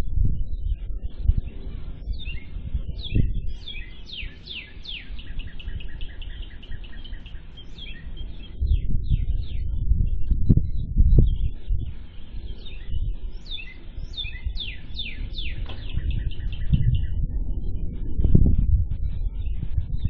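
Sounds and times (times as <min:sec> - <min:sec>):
steady low rumble: 0:00.0 - 0:20.0
bird singing: 0:00.3 - 0:20.0.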